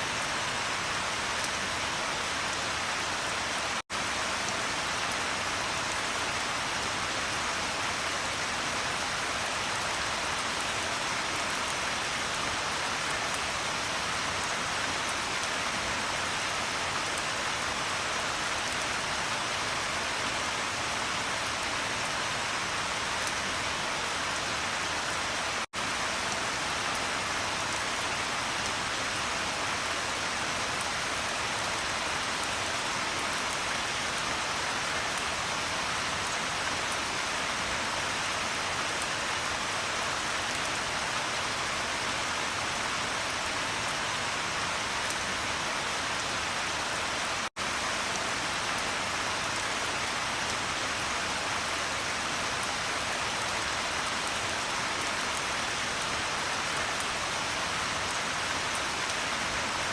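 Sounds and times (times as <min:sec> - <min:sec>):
rain patter on a surface: 0:00.0 - 0:59.9.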